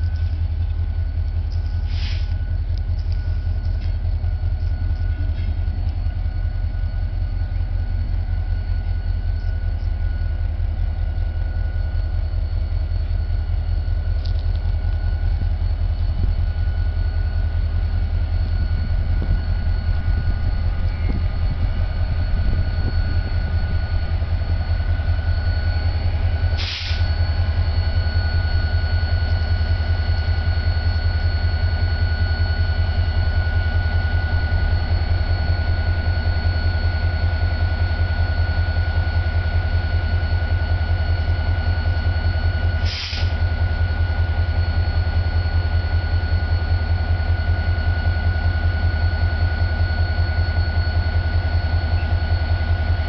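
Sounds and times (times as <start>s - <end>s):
locomotive engine throbbing: 0.0s - 53.0s
steady high whine: 0.0s - 53.0s.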